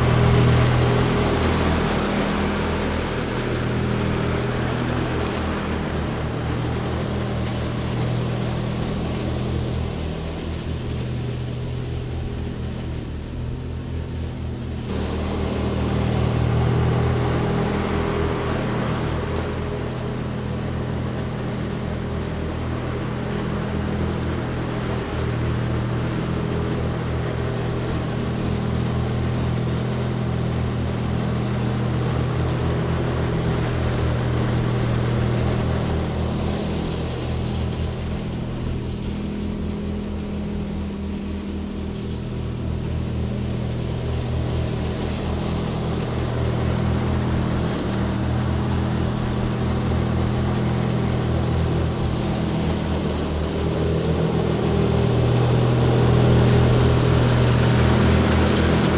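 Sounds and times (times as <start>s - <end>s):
ride-on lawn mower engine: 0.0s - 58.9s.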